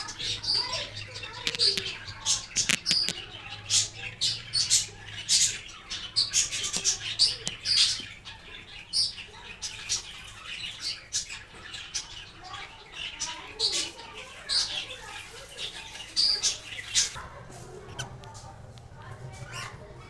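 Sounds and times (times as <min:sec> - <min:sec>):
cockatiels chirping: 0:00.0 - 0:20.0.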